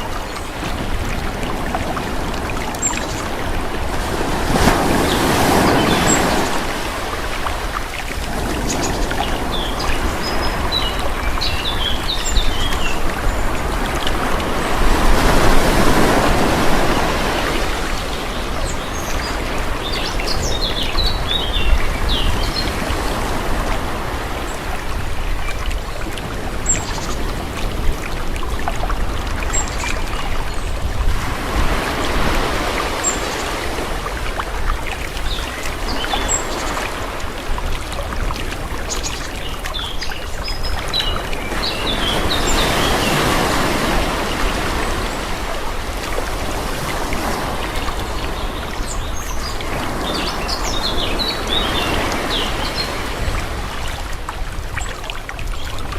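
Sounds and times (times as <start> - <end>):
gentle sea waves: 0.0 - 55.9.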